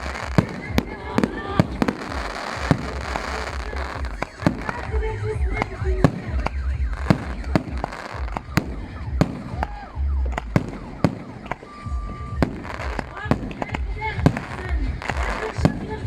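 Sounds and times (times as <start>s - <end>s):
low rumble: 0.0s - 15.1s
fireworks bangs: 0.0s - 16.0s
fireworks whistles: 0.0s - 16.0s.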